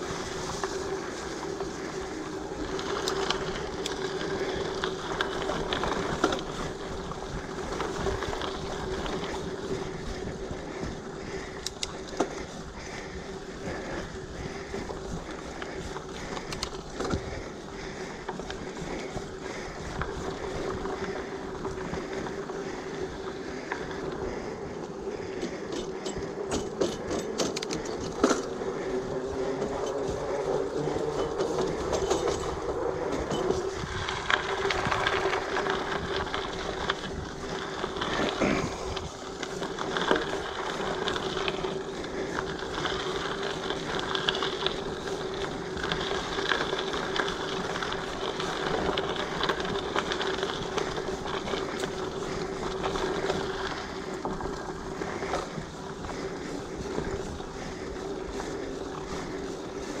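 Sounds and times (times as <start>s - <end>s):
bike rattling: 0.0s - 60.0s
bike tyres rolling on dirt: 0.0s - 60.0s.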